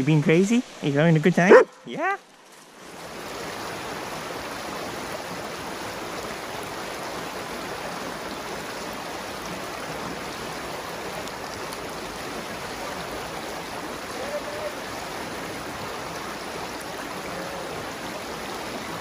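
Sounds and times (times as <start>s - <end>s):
brook water rushing: 0.0s - 19.0s.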